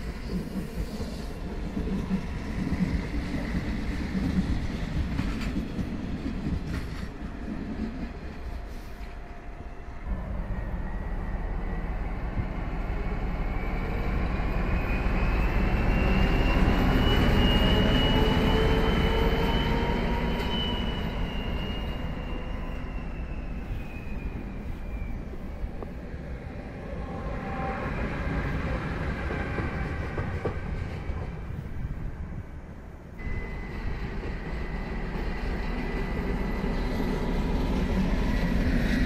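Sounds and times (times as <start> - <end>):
diesel locomotive passing: 0.0 - 39.0.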